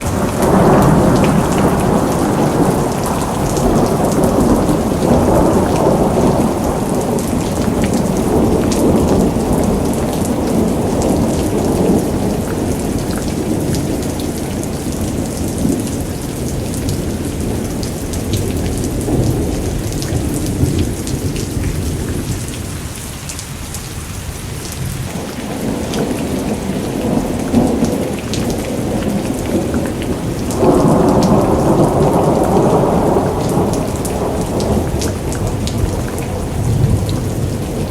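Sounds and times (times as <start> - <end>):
rolling thunder rumble: 0.0 - 23.0, 23.9 - 37.9
steady rain: 0.0 - 37.9.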